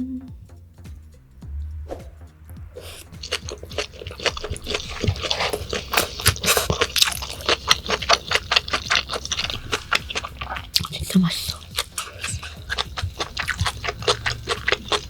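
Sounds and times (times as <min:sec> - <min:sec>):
wet chewing: 0:02.8 - 0:15.0.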